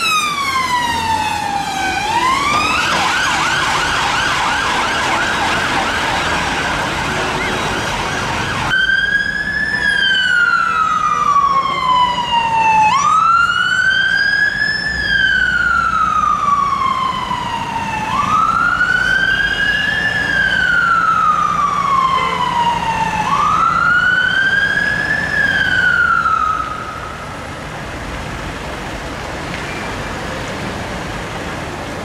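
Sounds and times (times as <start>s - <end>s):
siren wailing: 0.0s - 27.3s
road traffic noise: 0.0s - 32.0s.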